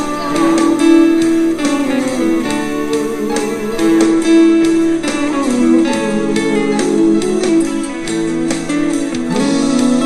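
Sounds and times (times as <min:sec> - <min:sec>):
guitar tune with steel guitar: 0:00.0 - 0:10.0.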